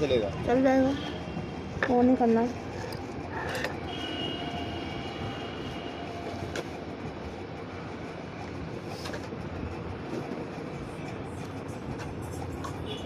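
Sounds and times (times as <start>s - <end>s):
steady rumbling background noise: 0.0s - 13.0s.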